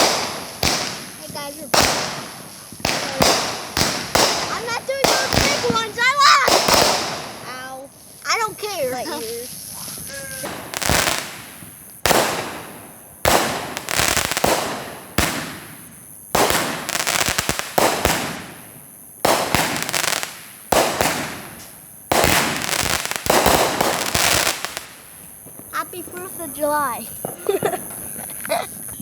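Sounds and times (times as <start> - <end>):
firework bangs: 0.0 - 29.0
firework crackling: 0.0 - 29.0.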